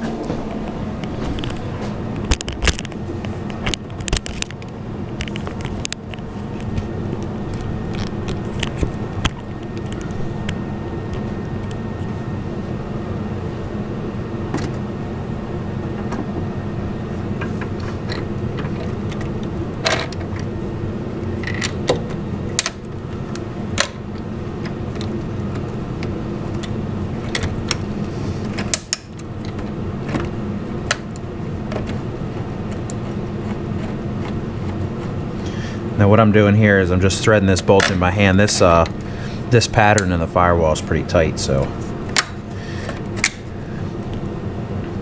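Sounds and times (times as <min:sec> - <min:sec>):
low droning hum: 0:00.0 - 0:45.0.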